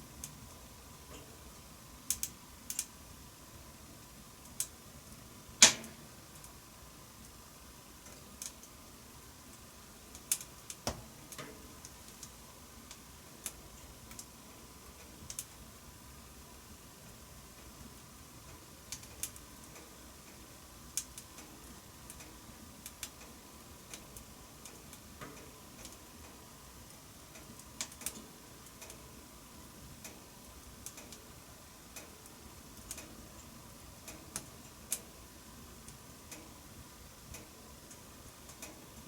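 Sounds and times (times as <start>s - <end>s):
low hiss: 0.0s - 39.0s
wood fire crackling: 0.0s - 39.0s.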